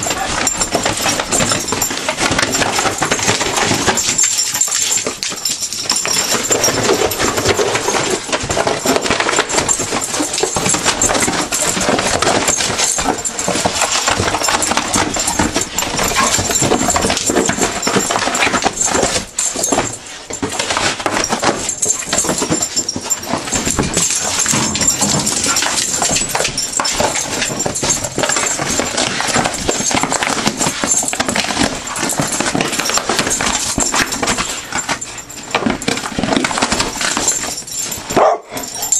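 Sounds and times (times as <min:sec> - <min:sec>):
dogs tearing cardboard: 0:00.0 - 0:38.9.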